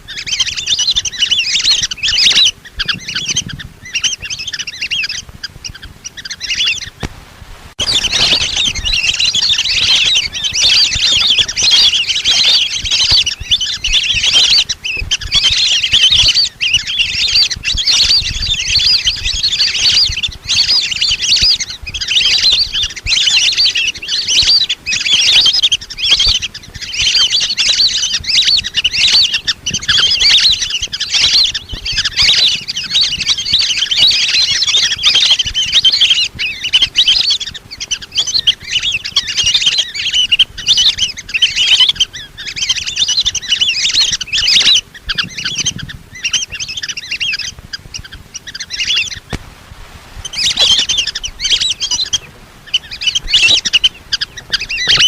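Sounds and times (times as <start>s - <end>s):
ducks whistling calls: 0.0s - 7.1s, 7.8s - 55.0s.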